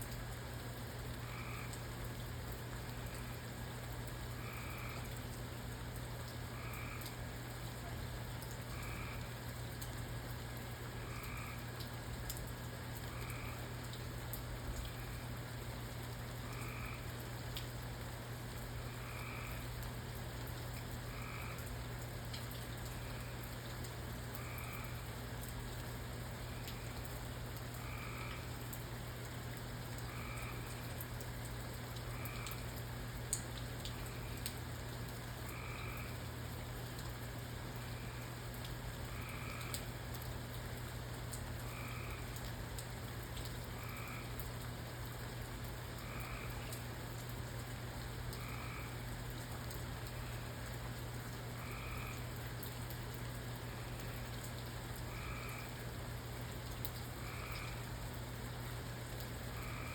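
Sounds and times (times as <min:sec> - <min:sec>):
faint drip-like ticks: 0:00.0 - 0:59.9
low constant hum: 0:00.0 - 0:59.9
steady rain-like hiss: 0:00.0 - 0:59.9
frogs calling: 0:01.2 - 0:02.5, 0:03.1 - 0:05.2, 0:06.4 - 0:07.6, 0:08.4 - 0:12.4, 0:13.0 - 0:15.3, 0:16.3 - 0:17.3, 0:18.5 - 0:19.9, 0:20.5 - 0:40.6, 0:41.3 - 0:47.4, 0:48.2 - 0:59.9.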